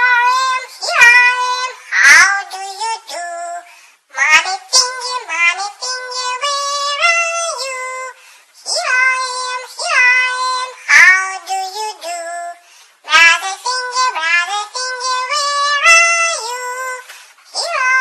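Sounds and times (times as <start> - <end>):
children's song music: 0.0 - 18.0
high synthetic voice singing: 0.0 - 18.0.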